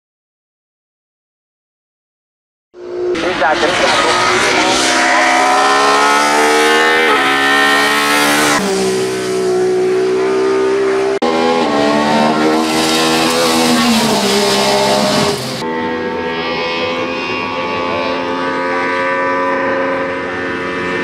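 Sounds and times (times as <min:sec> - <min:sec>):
car engine hard-revving: 0:02.8 - 0:21.0.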